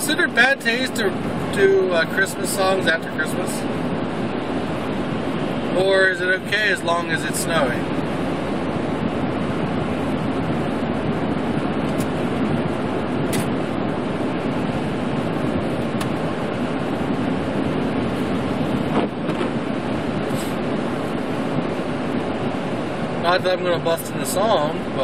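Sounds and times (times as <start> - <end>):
truck tyre and engine noise: 0.0 - 25.0.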